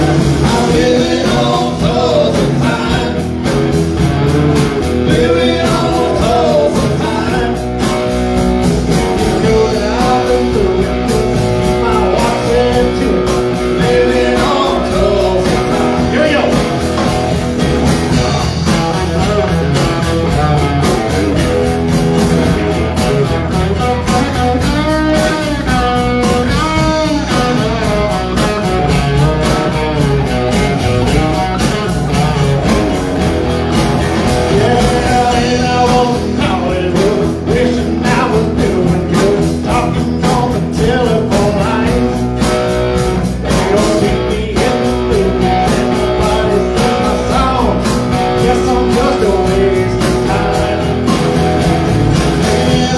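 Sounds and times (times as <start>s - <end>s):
electric guitar: 0.0s - 52.9s
live blues-rock band: 0.0s - 52.9s.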